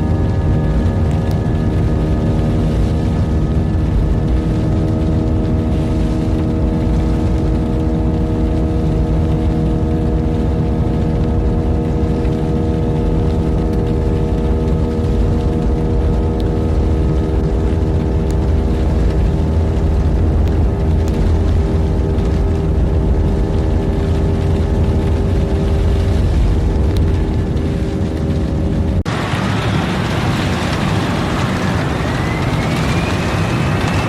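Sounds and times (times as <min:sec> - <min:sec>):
jet airliner engines droning: 0:00.0 - 0:34.0.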